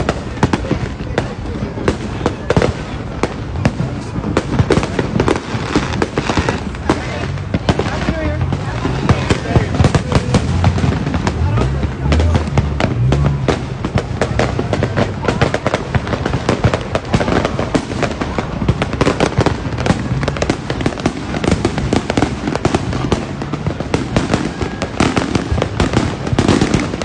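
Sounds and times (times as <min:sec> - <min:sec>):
fireworks crackling and banging: 0:00.0 - 0:27.0.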